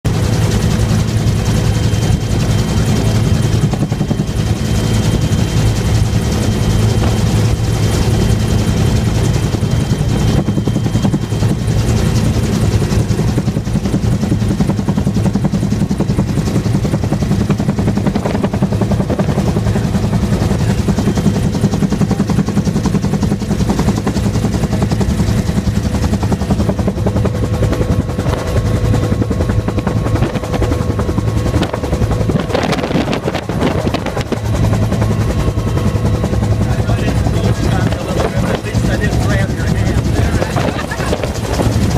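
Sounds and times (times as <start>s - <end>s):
helicopter rotor and engine: 0.0s - 41.9s
steady whining tones: 0.1s - 41.9s.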